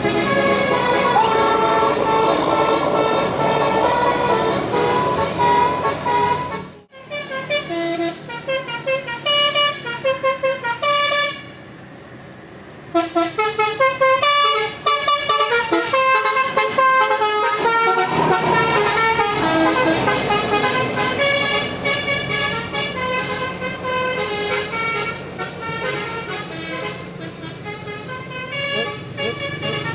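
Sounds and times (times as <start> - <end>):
air horn playing a tune: 0.0 - 11.5, 13.0 - 29.9.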